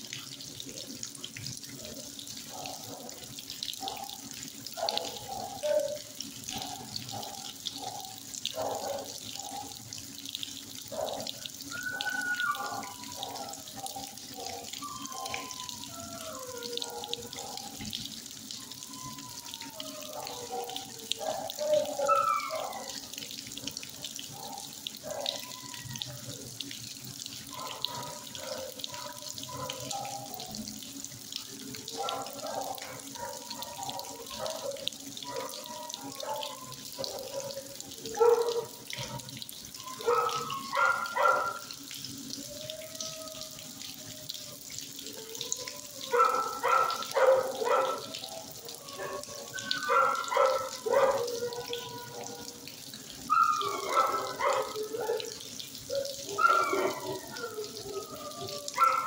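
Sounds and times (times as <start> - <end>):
dogs barking and whining: 0.6 - 59.0.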